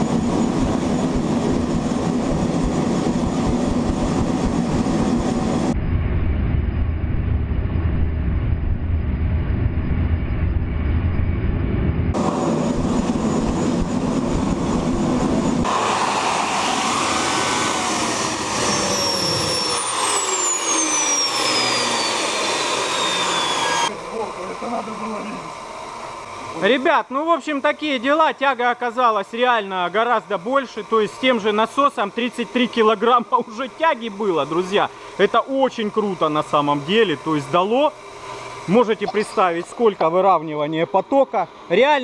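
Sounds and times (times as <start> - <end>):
jet engine running: 0.0 - 42.0
turbine whine falling in pitch: 0.0 - 42.0.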